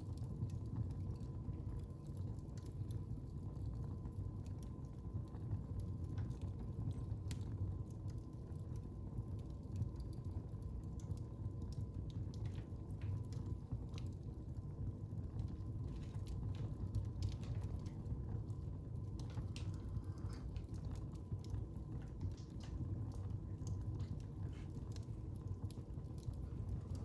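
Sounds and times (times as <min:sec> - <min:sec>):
fire popping and snapping: 0:00.0 - 0:27.0
low rumble of burning logs: 0:00.0 - 0:27.0.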